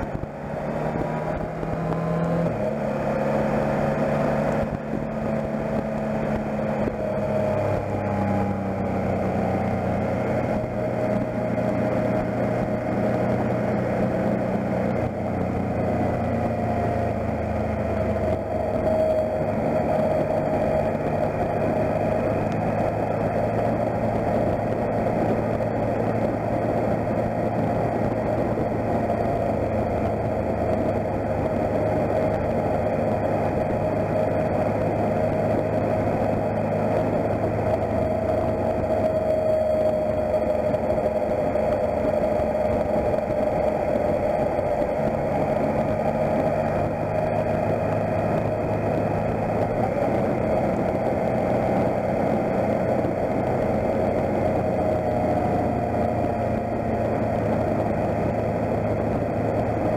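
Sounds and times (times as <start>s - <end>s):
motorcycle engine running: 0.0s - 59.9s
tyre noise on wet road: 0.0s - 59.9s
wind rush: 0.0s - 59.9s.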